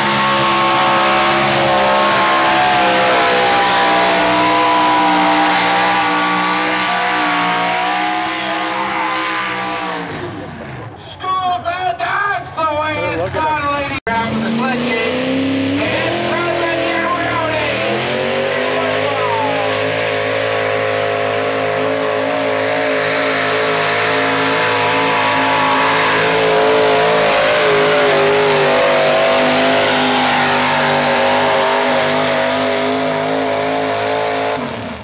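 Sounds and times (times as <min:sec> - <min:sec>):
truck engine at high revs: 0:00.0 - 0:11.0, 0:12.7 - 0:35.0.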